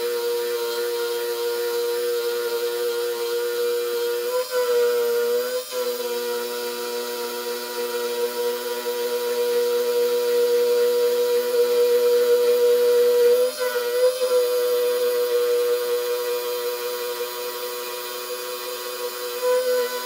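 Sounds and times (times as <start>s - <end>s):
milling machine whine: 0.0s - 20.0s.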